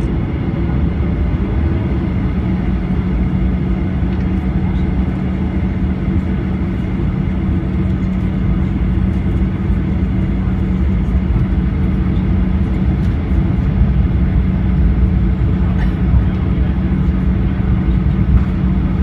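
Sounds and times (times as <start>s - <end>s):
jet engine rumble in cabin: 0.0s - 19.0s
steady low hum: 0.0s - 19.0s.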